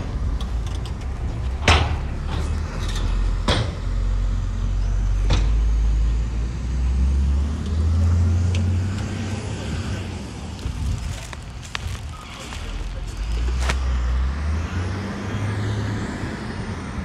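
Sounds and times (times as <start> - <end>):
diesel machinery engine rumble: 0.0 - 17.0.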